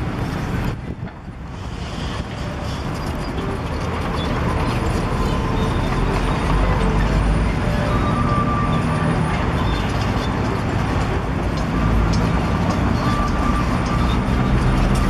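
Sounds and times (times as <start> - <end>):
concrete mixer truck engine: 0.0 - 15.0
excavator engine running: 0.0 - 15.0.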